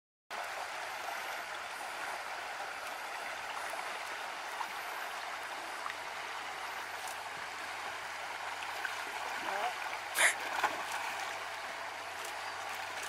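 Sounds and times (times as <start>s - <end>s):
water rushing in channel: 0.3s - 13.0s.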